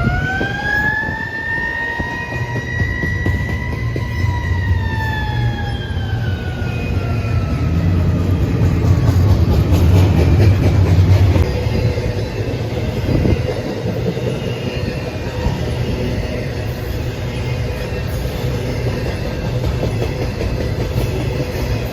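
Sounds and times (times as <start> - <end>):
locomotive rumble: 0.0 - 21.9
train cars rolling: 0.0 - 21.9.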